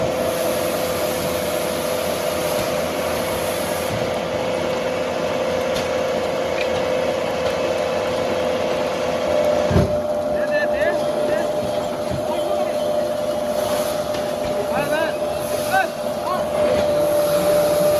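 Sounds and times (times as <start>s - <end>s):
heavy sawmill machinery running: 0.0s - 17.9s.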